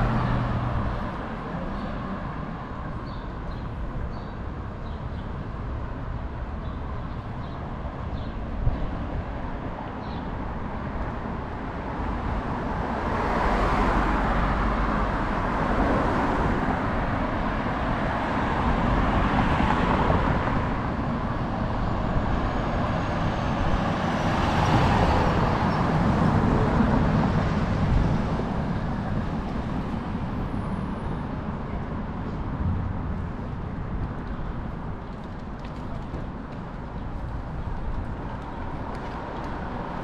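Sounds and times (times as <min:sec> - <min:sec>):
steady road noise: 0:00.0 - 0:40.0
vehicles passing: 0:00.0 - 0:40.0.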